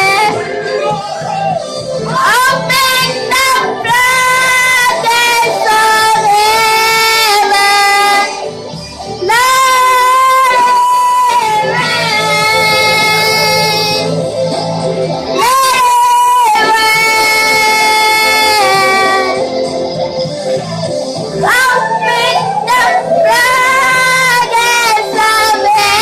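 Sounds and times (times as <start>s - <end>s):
instrumental backing music: 0.0s - 26.0s.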